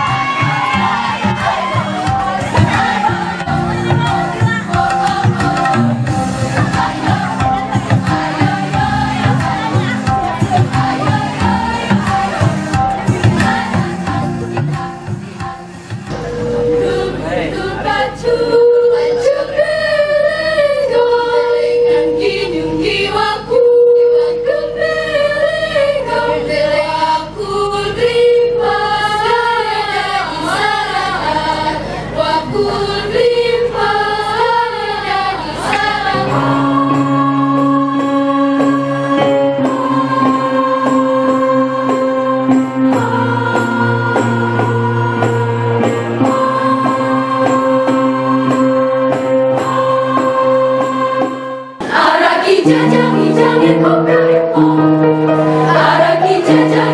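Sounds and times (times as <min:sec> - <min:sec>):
female choir singing: 0:00.0 - 0:56.9.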